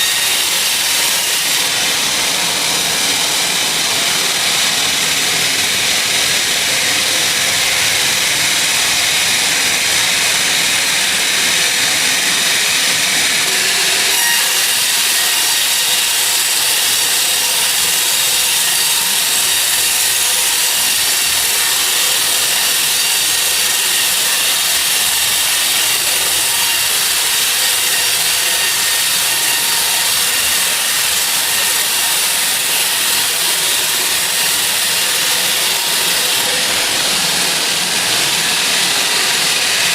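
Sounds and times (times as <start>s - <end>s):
saw blade whining through wood: 0.0s - 39.9s.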